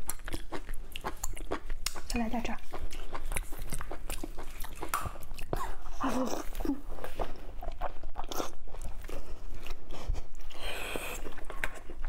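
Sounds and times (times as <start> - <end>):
person chewing close to microphone: 0.0 - 12.0.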